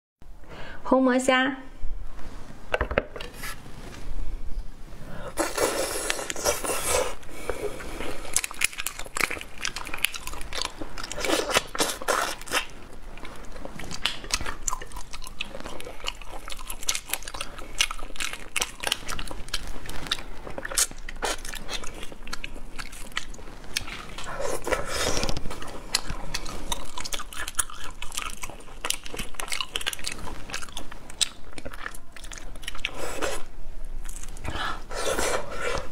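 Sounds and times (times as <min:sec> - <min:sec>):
wet chewing: 0:05.4 - 0:35.9.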